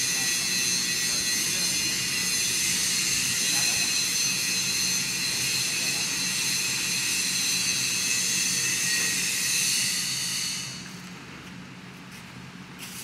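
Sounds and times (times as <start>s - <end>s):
machinery high-pitched whine: 0.0s - 11.3s.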